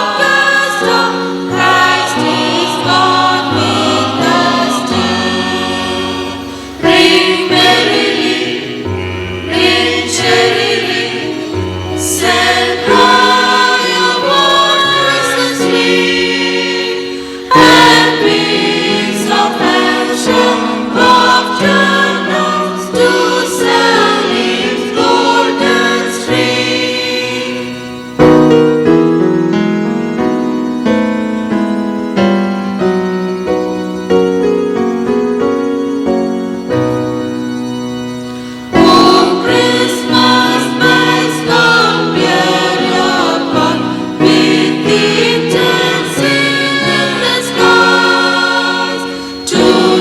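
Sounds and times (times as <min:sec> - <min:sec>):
choir singing carol: 0:00.0 - 0:50.0.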